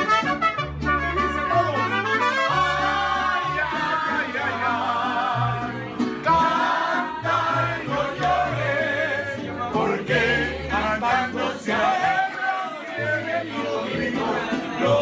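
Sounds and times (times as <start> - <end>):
guitars: 0.0 - 15.0
man singing: 1.0 - 15.0.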